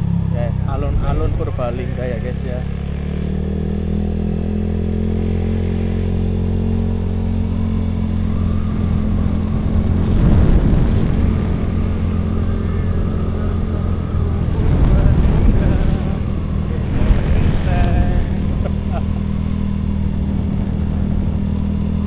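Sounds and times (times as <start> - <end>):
motor scooter engine running: 0.0 - 22.0
rough low rumble: 0.0 - 22.0.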